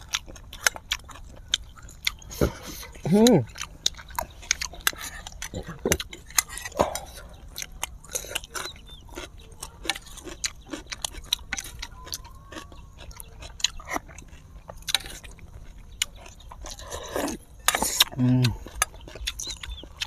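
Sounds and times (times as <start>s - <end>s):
mouth smacks and chewing: 0.0s - 20.0s.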